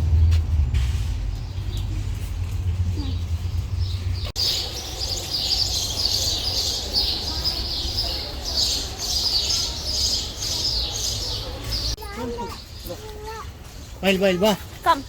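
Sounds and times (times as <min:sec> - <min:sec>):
small birds chirping: 0:01.2 - 0:15.0.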